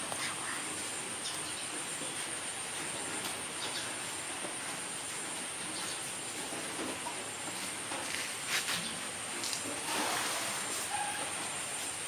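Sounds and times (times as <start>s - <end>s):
faint ticks and rustles: 0.0s - 9.8s
insects droning: 0.0s - 12.0s.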